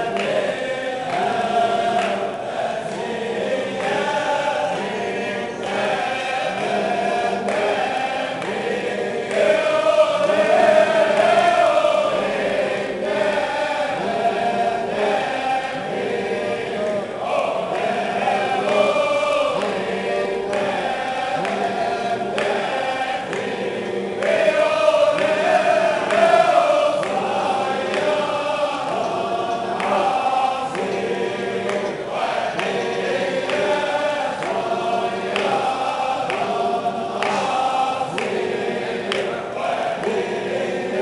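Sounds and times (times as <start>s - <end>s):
men chanting in unison: 0.0s - 41.0s
rhythmic repeated calls: 0.0s - 41.0s.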